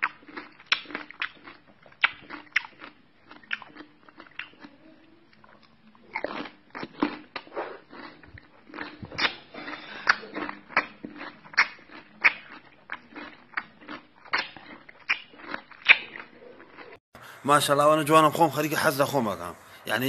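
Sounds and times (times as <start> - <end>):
person chewing crunchy vegetable: 0.0 - 17.0.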